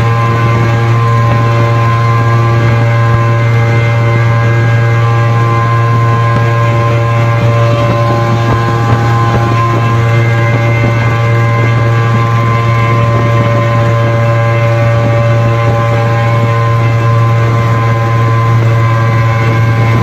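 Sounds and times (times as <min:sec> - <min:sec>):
two-stroke engine at high revs: 0:00.0 - 0:20.0.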